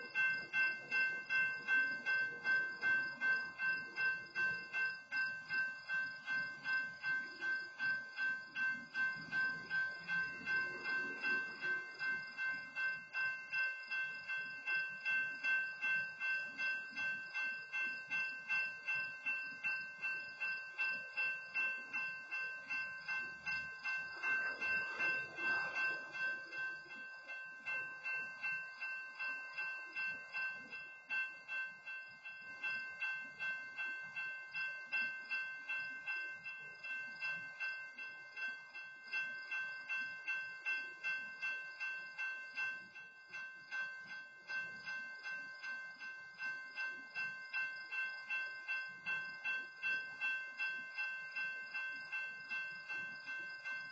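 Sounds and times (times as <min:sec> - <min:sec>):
crossing warning bell ringing: 0:00.0 - 0:53.9.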